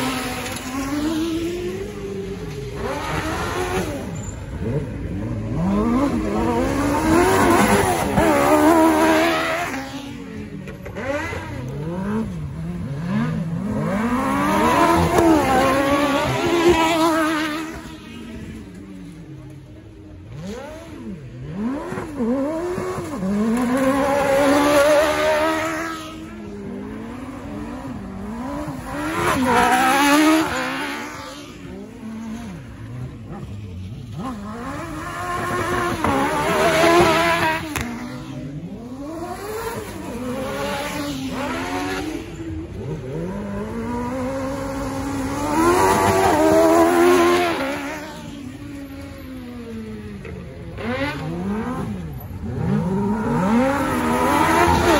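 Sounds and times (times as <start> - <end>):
buggy engines racing: 0.0 - 54.9.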